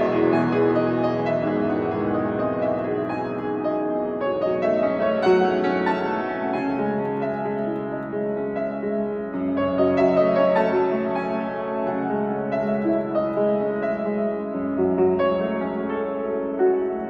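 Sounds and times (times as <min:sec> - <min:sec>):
slow gentle piano piece: 0:00.0 - 0:17.0.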